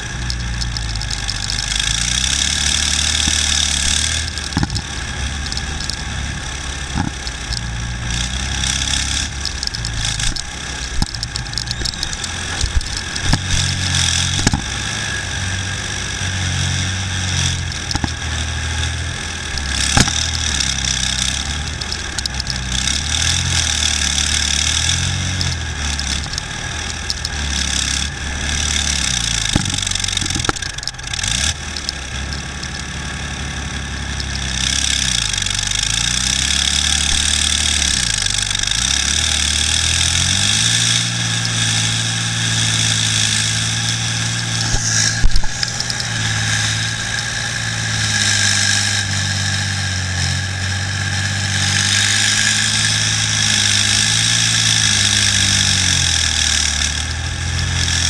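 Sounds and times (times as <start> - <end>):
diesel engine of armoured vehicle: 0.0 - 58.0.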